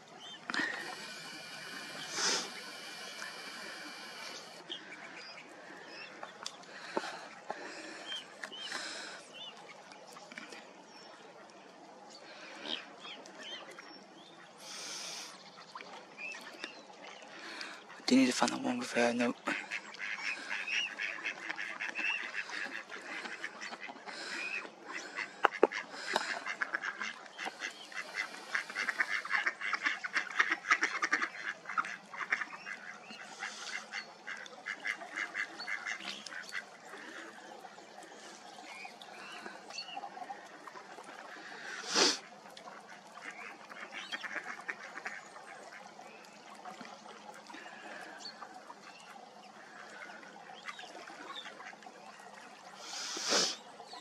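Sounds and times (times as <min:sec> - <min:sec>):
ducks quacking: 0:00.0 - 0:09.2, 0:17.3 - 0:53.6.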